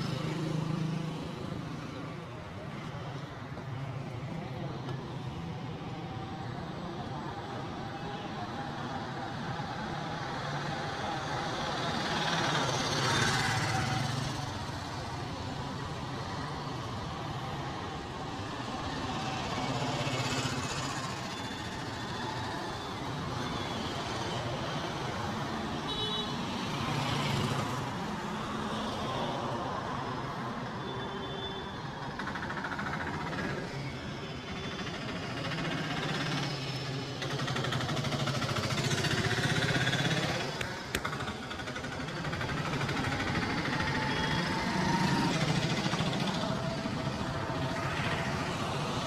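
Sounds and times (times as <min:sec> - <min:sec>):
steady road noise: 0:00.0 - 0:49.0
vehicles passing: 0:00.0 - 0:49.0.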